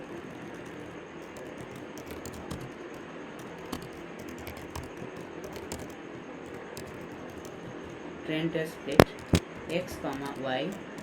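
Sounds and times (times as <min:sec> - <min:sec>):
typing on computer keyboard: 0:00.0 - 0:08.0, 0:08.9 - 0:11.0.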